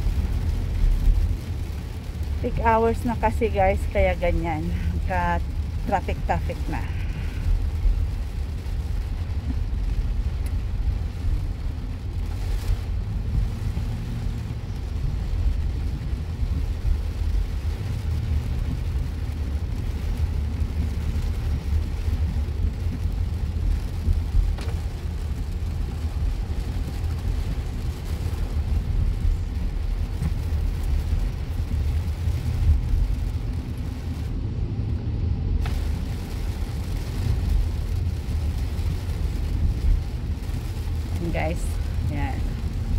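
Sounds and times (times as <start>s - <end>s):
car rumbling on wet road: 0.0s - 42.9s
rain hitting windshield: 0.0s - 42.9s.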